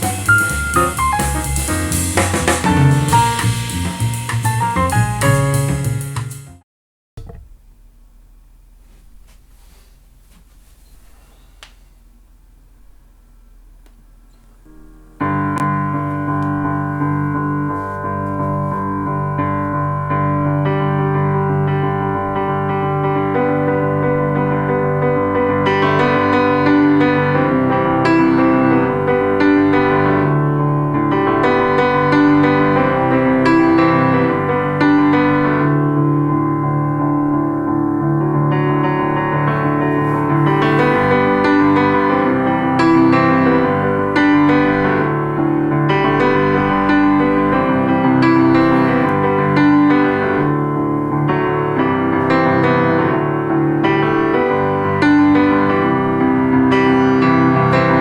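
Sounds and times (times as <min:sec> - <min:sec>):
piano music from a speaker: 0:00.0 - 0:06.6, 0:13.6 - 0:58.0.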